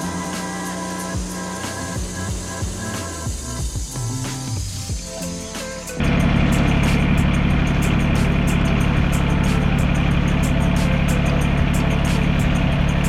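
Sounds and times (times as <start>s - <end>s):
sawmill engine running loudly: 0.0s - 3.5s, 5.9s - 13.0s.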